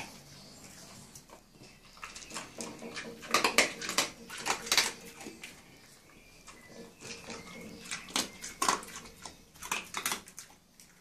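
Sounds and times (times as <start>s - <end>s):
dog crunching kibble: 1.2s - 11.0s.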